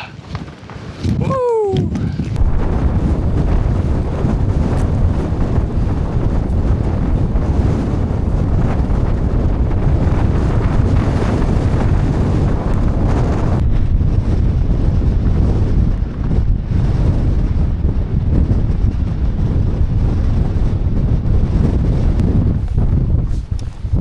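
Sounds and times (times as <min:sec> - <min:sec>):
strong wind buffeting microphone: 0:00.0 - 0:24.0.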